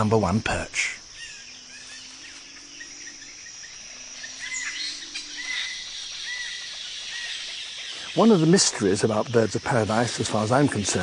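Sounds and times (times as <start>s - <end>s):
high insect buzz: 0.0s - 11.0s
bird chirps: 1.0s - 11.0s.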